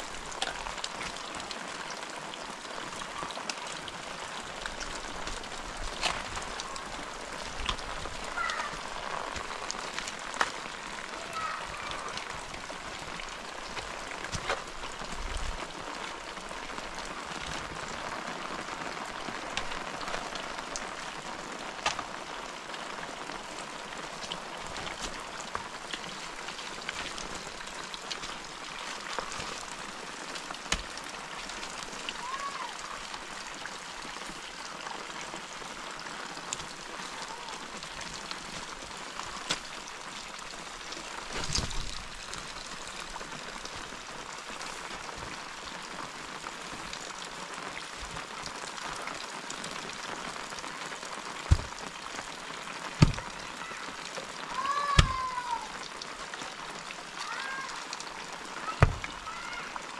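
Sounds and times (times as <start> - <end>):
steady rain: 0.0 - 59.9
water drops and drips: 0.0 - 59.9.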